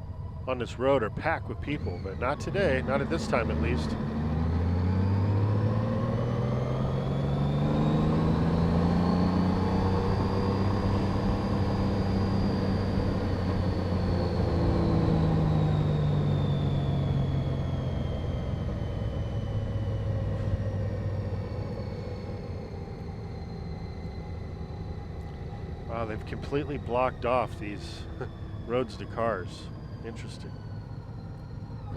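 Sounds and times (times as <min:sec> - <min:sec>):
faint high whine: 0:00.0 - 0:31.9.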